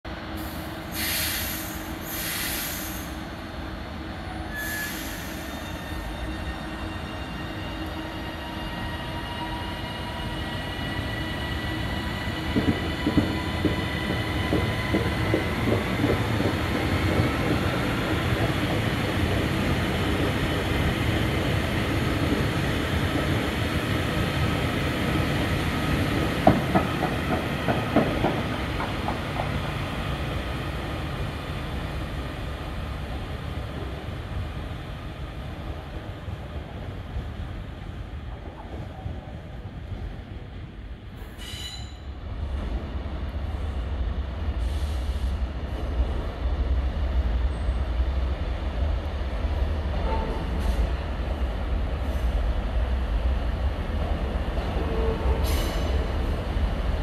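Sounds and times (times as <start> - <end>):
train passing slowly: 0.1 - 57.0.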